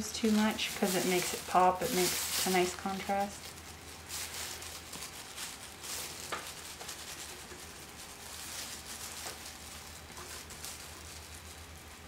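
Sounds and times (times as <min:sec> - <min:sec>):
plastic gloves crinkling: 0:00.0 - 0:12.0
steady low hum: 0:00.0 - 0:12.0.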